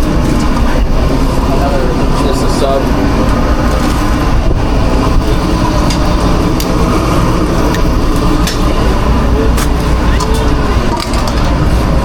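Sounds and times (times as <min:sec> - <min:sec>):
kitchen machinery rumbling: 0:00.0 - 0:12.0.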